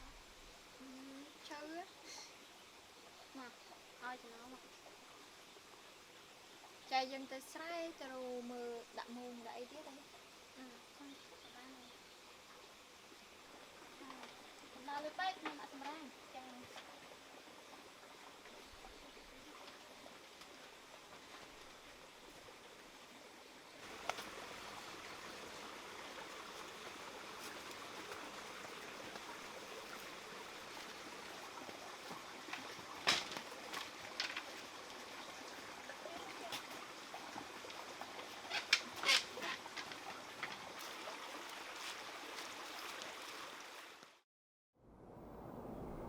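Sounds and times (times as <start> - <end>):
steady outdoor hiss: 0.0 - 44.2.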